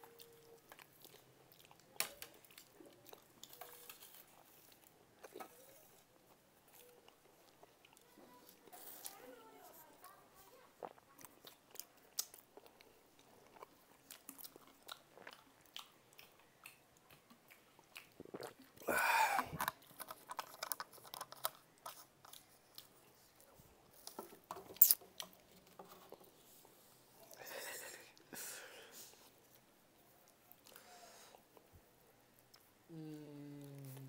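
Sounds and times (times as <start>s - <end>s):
people chewing food: 0.0s - 34.0s.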